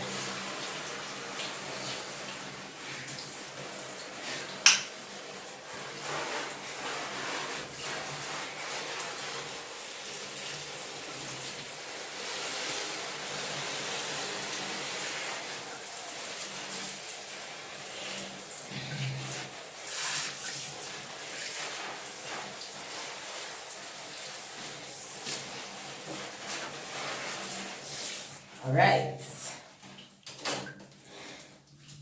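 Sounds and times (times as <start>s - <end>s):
water spraying onto plants: 0.0s - 28.5s.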